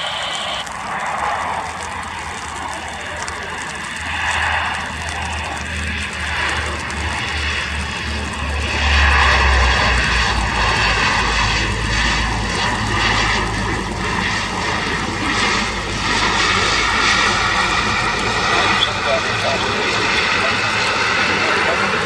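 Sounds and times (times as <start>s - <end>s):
engine whine: 0.0s - 22.0s
turboprop engines roaring: 0.0s - 22.0s.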